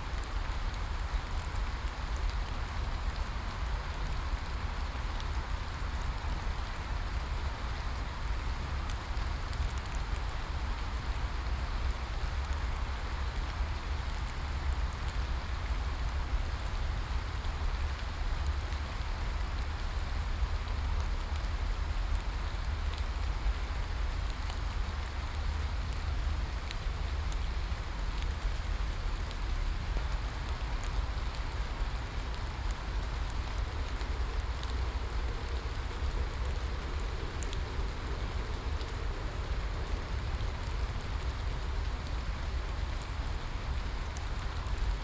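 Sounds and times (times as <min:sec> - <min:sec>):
raindrop ticks: 0:00.1 - 0:07.3, 0:08.2 - 0:45.0.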